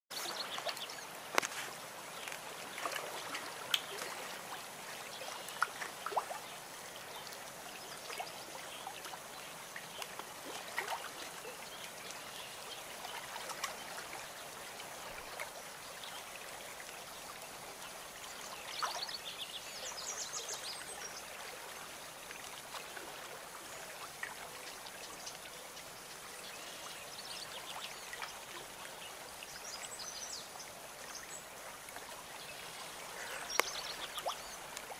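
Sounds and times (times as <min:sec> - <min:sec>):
water trickling: 0:00.1 - 0:34.9.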